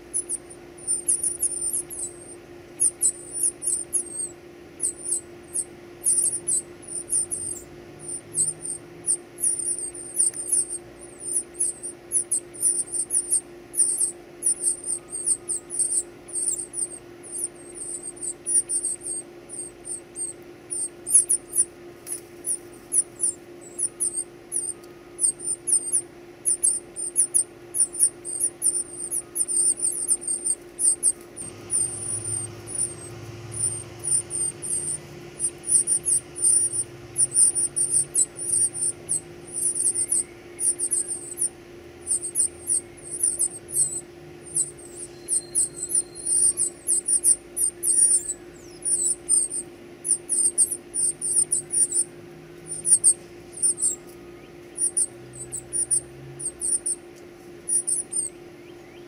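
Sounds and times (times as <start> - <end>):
nestlings begging calls: 0.0 - 59.0.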